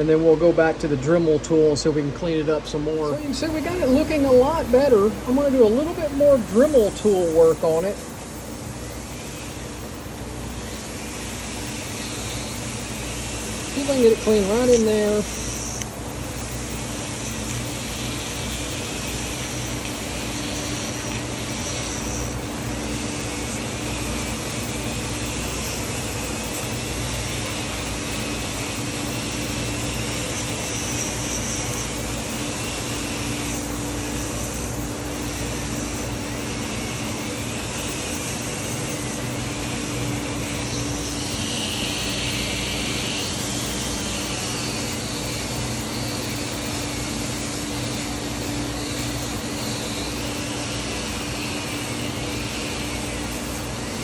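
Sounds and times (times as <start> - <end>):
rotary tool whining on metal: 0.0 - 54.0.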